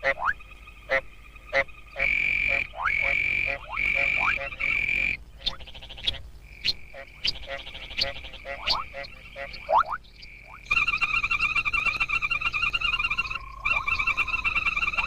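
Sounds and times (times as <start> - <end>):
frogs chorus: 0.0 - 15.0
high trilling frog call: 0.0 - 15.0
short sharp frog calls: 0.0 - 15.0.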